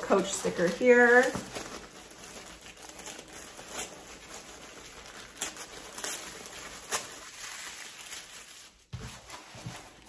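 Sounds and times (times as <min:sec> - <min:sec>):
tissue paper rustling: 0:00.0 - 0:10.0.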